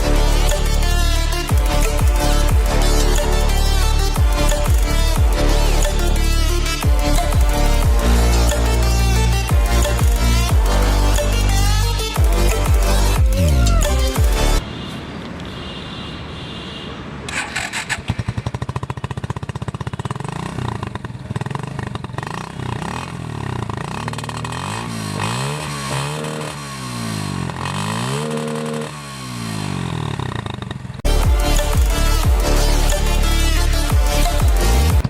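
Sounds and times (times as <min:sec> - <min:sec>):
motorcycle engine revving: 0:00.0 - 0:14.6, 0:17.2 - 0:35.0.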